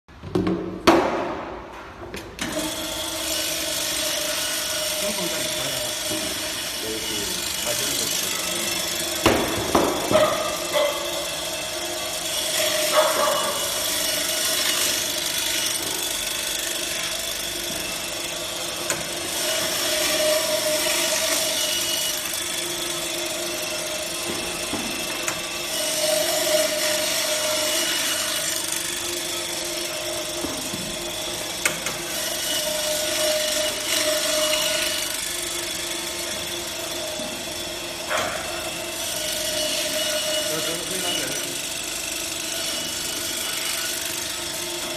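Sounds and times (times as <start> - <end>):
band saw humming: 2.4 - 44.9
saw blade cutting frozen meat: 2.4 - 44.9.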